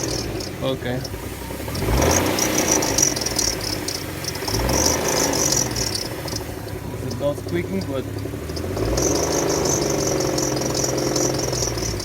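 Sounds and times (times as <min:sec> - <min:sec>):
car engine revving: 0:00.0 - 0:12.0
engine knocking: 0:00.0 - 0:12.0
high-pitched chirping: 0:00.0 - 0:12.0.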